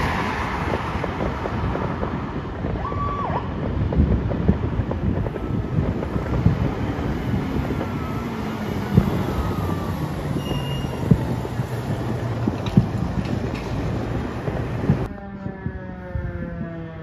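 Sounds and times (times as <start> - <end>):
fire engine diesel engine: 0.0 - 17.0.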